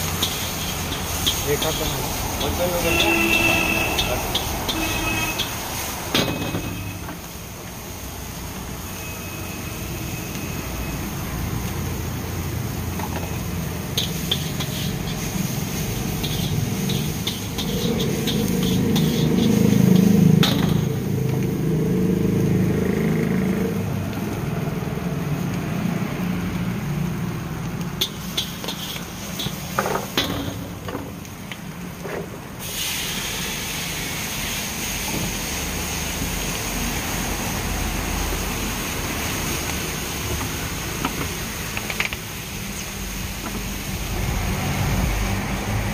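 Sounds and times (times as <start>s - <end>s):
gas burner roar: 0.0s - 45.9s
liquid sizzling in hot wok: 0.0s - 45.9s.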